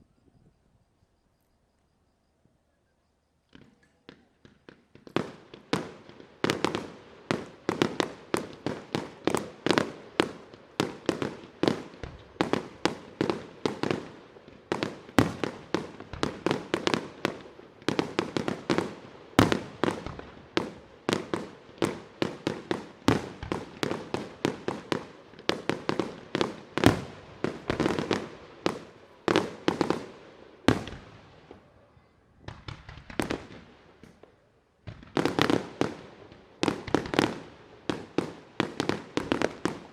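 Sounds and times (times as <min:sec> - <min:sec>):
fireworks bangs: 0:03.5 - 0:39.9.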